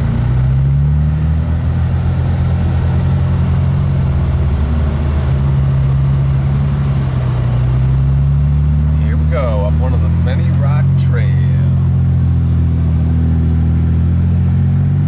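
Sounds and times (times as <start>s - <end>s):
vehicle engine at low revs: 0.0s - 15.0s.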